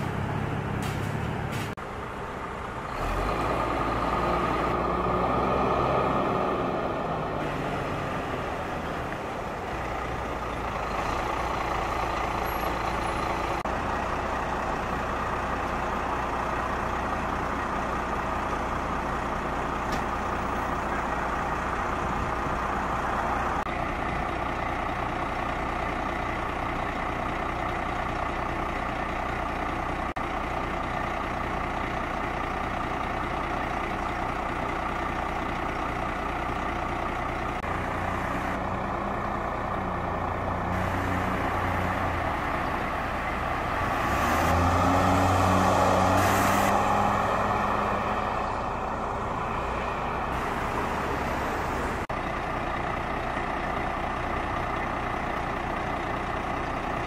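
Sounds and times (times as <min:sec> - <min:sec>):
diesel engines idling: 0:00.0 - 0:57.0.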